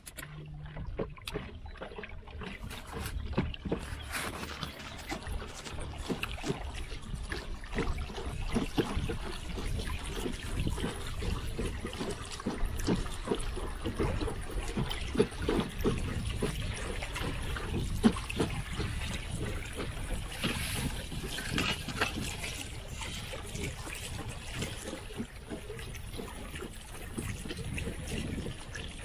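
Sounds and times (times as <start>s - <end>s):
water lapping and trickling: 0.0s - 29.0s.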